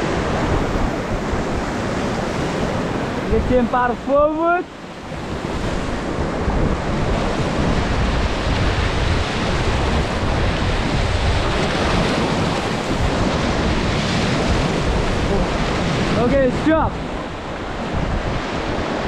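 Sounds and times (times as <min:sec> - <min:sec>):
whitewater rapid rushing: 0:00.0 - 0:19.0
wind buffeting microphone: 0:00.0 - 0:19.0.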